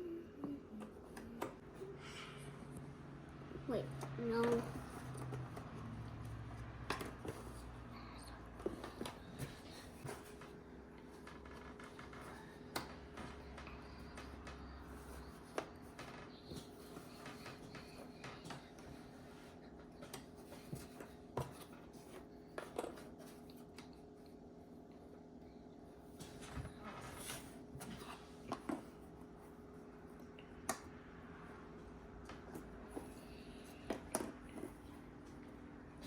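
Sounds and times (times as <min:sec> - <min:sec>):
faint room hum: 0:00.0 - 0:36.0.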